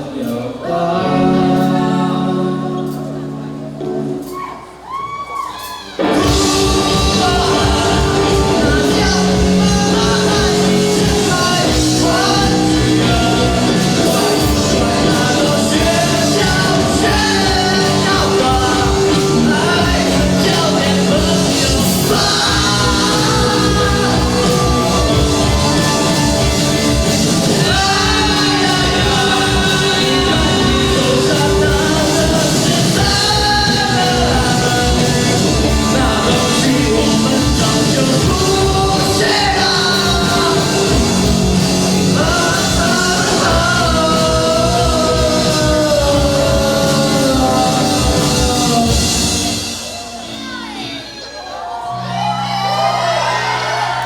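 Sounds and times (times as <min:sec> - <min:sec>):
person singing lead vocal: 0:00.0 - 0:54.0
rock band playing live: 0:00.0 - 0:54.0
steady drumbeat: 0:05.7 - 0:50.7.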